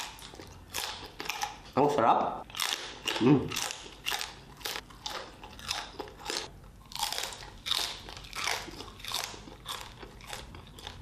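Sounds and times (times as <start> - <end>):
chewing crispy pork skin: 0.0 - 11.0.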